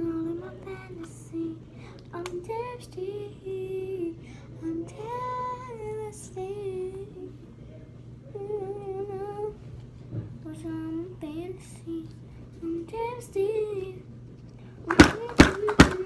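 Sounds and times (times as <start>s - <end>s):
girl singing softly: 0.0s - 7.6s, 8.2s - 14.2s, 14.8s - 16.0s.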